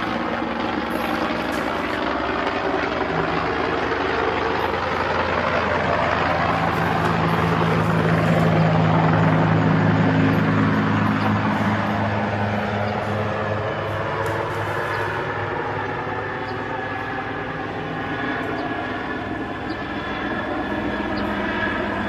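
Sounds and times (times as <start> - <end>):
mechanical engine drone: 0.0 - 22.0.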